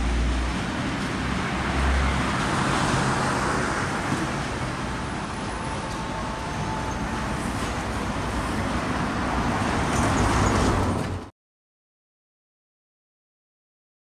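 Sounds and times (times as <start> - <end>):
city road traffic: 0.0 - 11.3.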